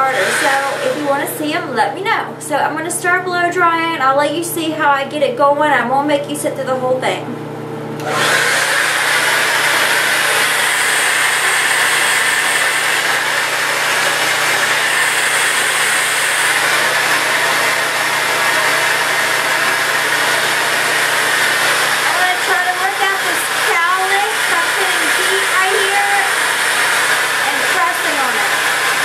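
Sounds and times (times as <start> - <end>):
hair dryer running: 0.0 - 3.7, 7.8 - 29.0.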